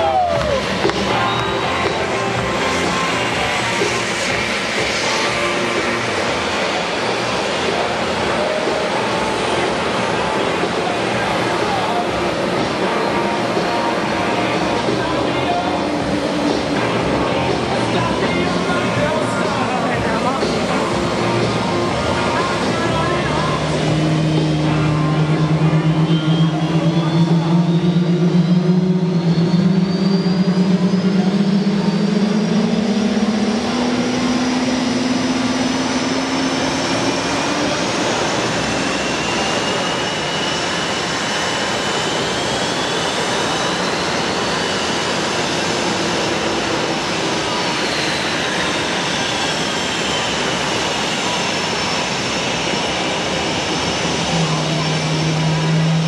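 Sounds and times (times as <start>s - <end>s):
jet engines roaring: 0.0s - 56.0s
low hum rising in pitch: 0.0s - 56.0s.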